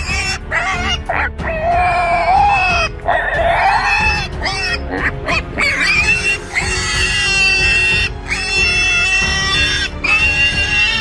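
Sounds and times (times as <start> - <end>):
piglet squealing: 0.0 - 11.0.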